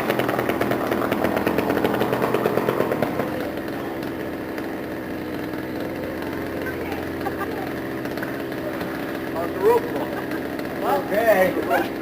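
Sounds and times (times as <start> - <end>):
two-stroke chainsaw running: 0.0 - 12.0.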